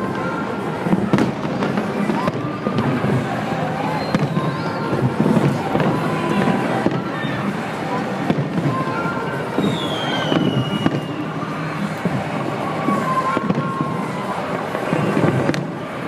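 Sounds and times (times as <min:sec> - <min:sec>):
fireworks bursting: 0:00.0 - 0:16.0
noisy crowd: 0:00.0 - 0:16.0
sharp firework crack: 0:00.1 - 0:16.0
falling firework whistle: 0:01.1 - 0:07.7, 0:08.3 - 0:16.0.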